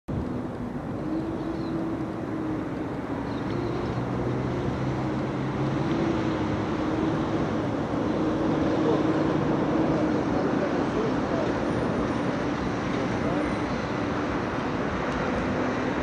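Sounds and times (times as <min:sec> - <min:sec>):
model boat motor humming: 0:00.1 - 0:16.0
outdoor rumble: 0:00.1 - 0:16.0.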